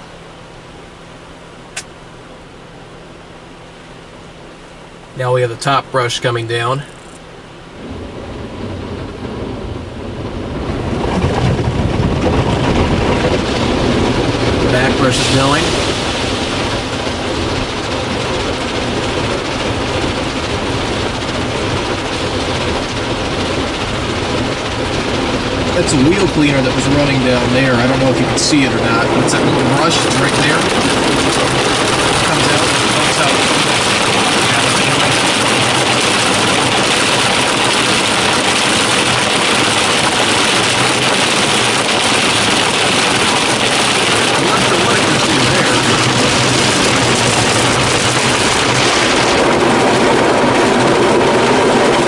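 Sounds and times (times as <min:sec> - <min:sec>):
water spraying against car: 0:00.0 - 0:52.0
low rumble: 0:05.9 - 0:52.0.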